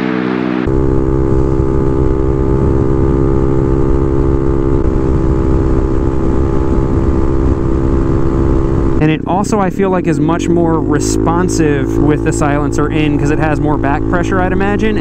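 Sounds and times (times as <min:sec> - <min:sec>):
loud motorcycle engine running: 0:00.0 - 0:15.0.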